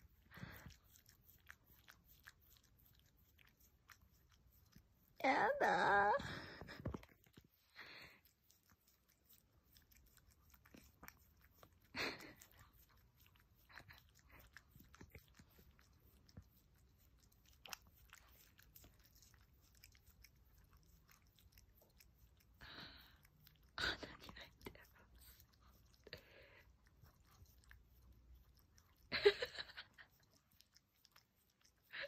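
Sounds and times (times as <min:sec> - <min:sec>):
dog licking wet lapping: 0:00.0 - 0:05.2, 0:06.5 - 0:32.0.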